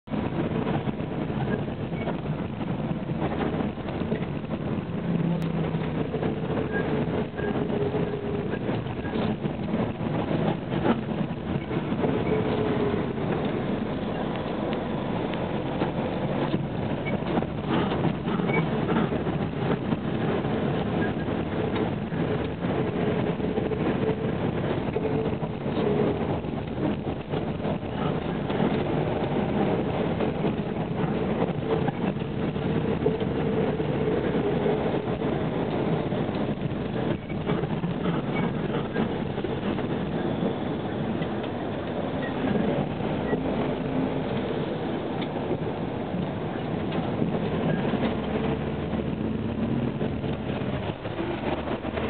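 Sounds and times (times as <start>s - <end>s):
road train engine and rolling: 0.0s - 52.0s.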